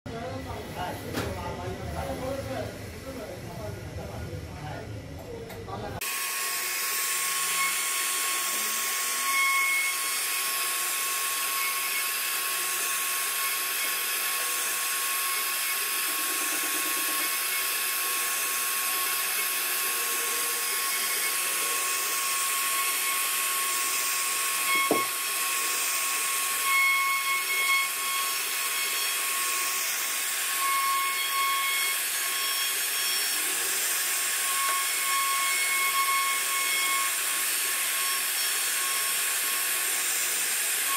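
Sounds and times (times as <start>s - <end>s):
hiss of wood cutting: 6.0s - 40.9s
router spindle high whine: 6.0s - 40.9s.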